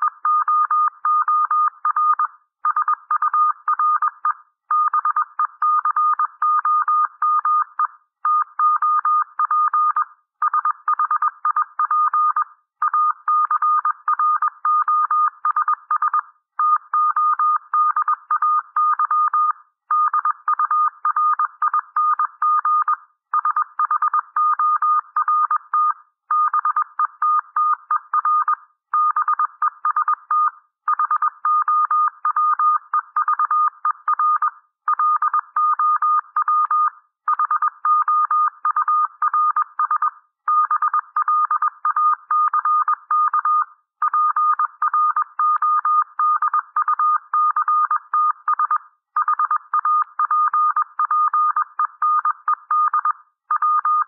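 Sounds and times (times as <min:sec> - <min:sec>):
morse code beeps: 0:00.0 - 0:54.0.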